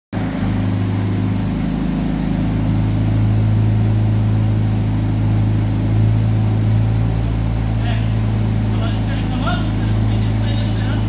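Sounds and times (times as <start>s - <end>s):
forklift engine idling: 0.2s - 11.0s.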